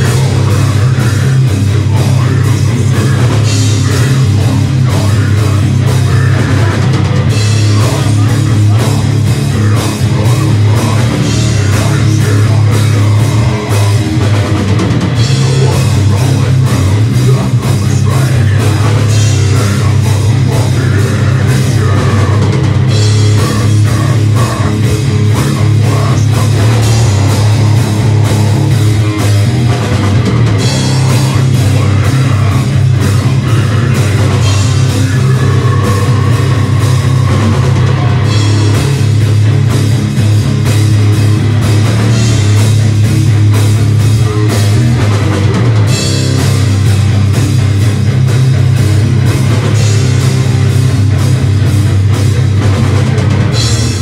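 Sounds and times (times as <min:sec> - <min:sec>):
distorted electric guitar: 0:00.0 - 0:54.0
drum kit with crashing cymbals: 0:00.0 - 0:54.0
live heavy metal band: 0:00.0 - 0:54.0.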